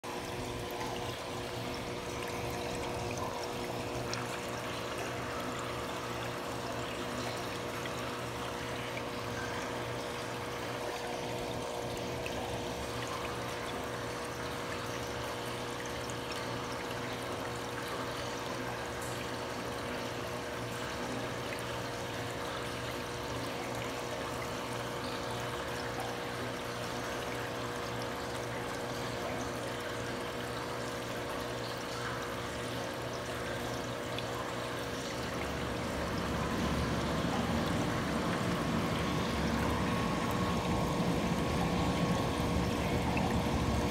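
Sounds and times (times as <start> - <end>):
pump hum: 0.0 - 43.9
water pouring into aquarium: 0.0 - 43.9.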